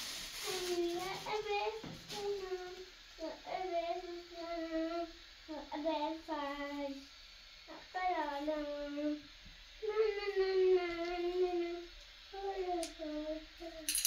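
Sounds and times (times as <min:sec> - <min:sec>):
young child singing: 0:00.4 - 0:07.1, 0:07.7 - 0:13.9.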